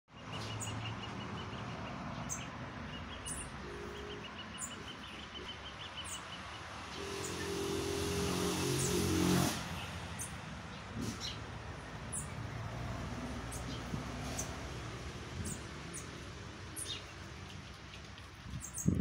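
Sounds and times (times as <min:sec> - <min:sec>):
birds chirping: 0:00.1 - 0:07.7, 0:09.7 - 0:14.7, 0:15.3 - 0:19.0
vehicle engine hum: 0:00.1 - 0:19.0.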